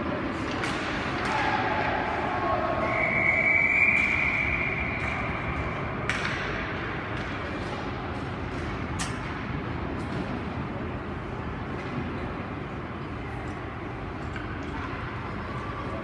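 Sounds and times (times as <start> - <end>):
ice rink background noise: 0.0 - 16.0.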